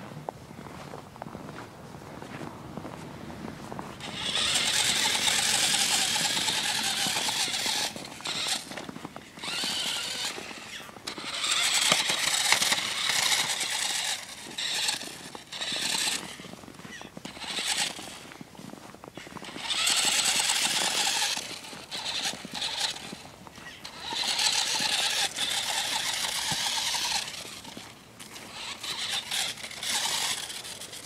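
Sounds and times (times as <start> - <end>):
remote-control car motor whining: 4.0 - 18.3, 19.2 - 31.0.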